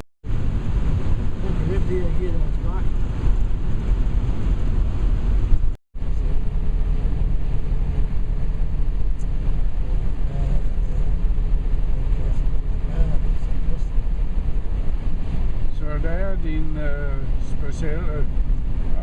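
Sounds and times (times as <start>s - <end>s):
vehicle rumble with road noise: 0.2s - 19.0s
wind noise: 0.2s - 19.0s.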